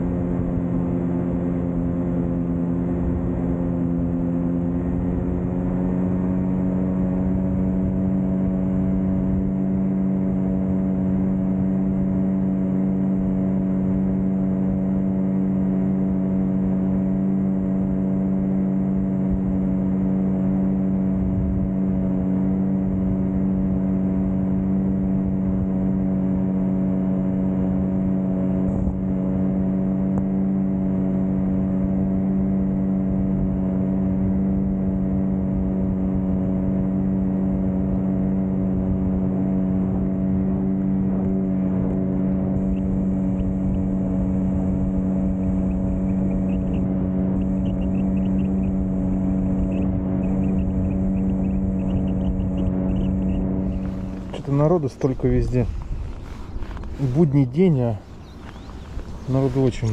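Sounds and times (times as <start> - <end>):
outboard motor droning: 0.0 - 59.9
wind and water rumble: 0.0 - 59.9.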